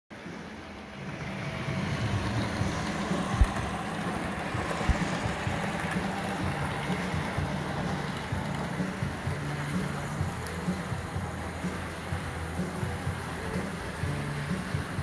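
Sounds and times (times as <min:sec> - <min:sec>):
model train running on track: 0:00.1 - 0:15.0.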